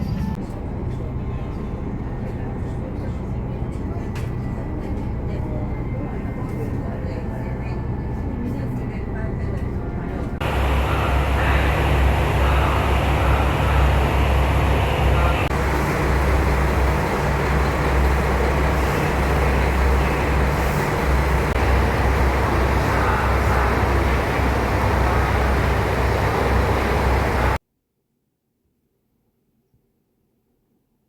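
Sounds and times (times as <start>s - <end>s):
train rumbling from inside carriage: 0.0s - 27.6s.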